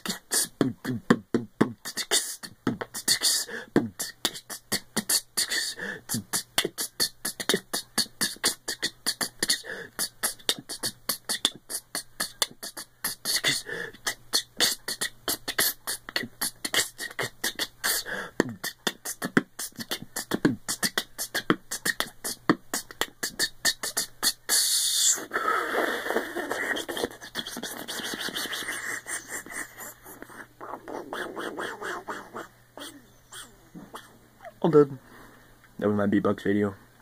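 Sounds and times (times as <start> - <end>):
beatboxing: 0.0 - 34.9.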